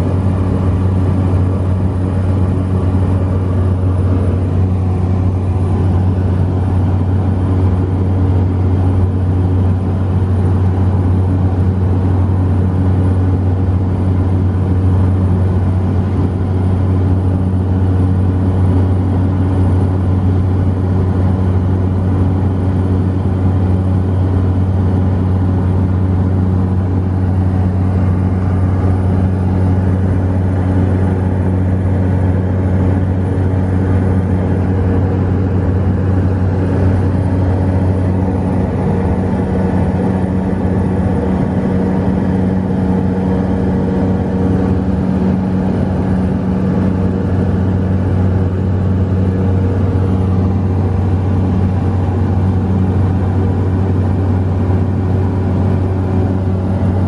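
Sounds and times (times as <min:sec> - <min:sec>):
propeller plane cabin drone: 0:00.0 - 0:57.0.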